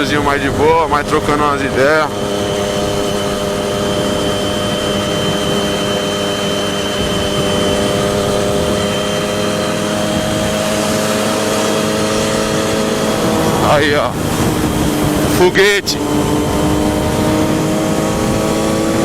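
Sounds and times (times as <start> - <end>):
motorcycle engine cruising: 0.0 - 19.0
wind noise: 0.0 - 19.0.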